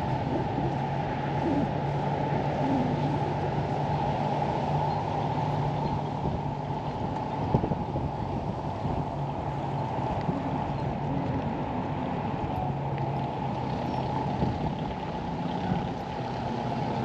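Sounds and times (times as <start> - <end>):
low motor hum: 0.0 - 17.0
wind rumbling on microphone: 0.0 - 17.0.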